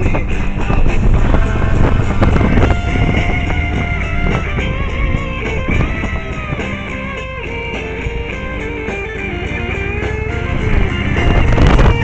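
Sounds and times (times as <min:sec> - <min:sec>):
guitar-led music: 0:00.0 - 0:12.0
motorcycle engine rumble: 0:00.0 - 0:12.0
wind noise: 0:00.0 - 0:12.0.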